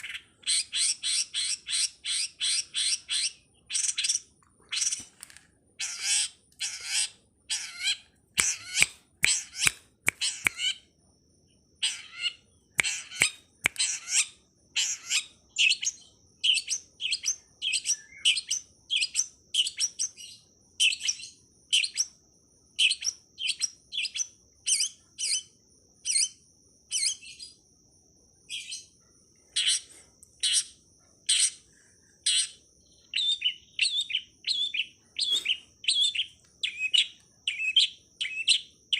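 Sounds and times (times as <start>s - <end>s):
songbird sharp high calls: 0.0s - 5.0s, 5.8s - 10.8s, 11.8s - 22.1s, 22.7s - 27.6s, 29.5s - 38.9s.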